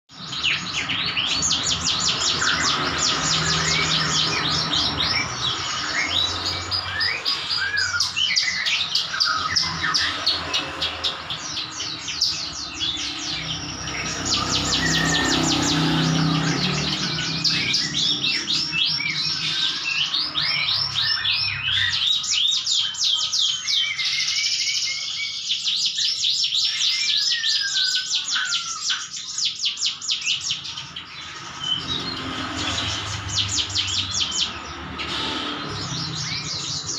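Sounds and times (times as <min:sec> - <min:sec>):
bird singing rapid high chirps: 0:00.1 - 0:36.9.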